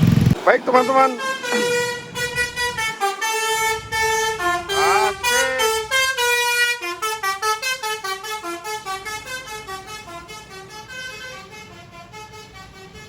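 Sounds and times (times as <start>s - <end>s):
bus horn playing melodic notes: 0.6s - 13.0s.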